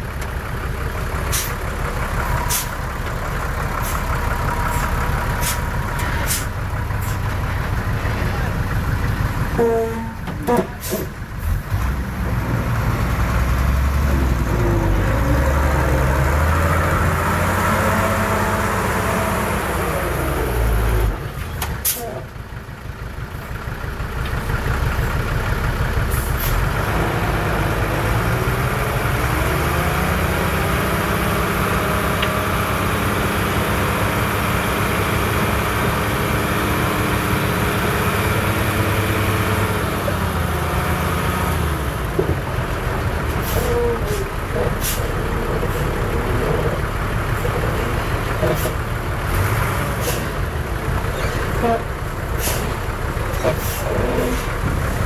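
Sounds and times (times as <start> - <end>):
heavy diesel engine revving: 0.0 - 55.0.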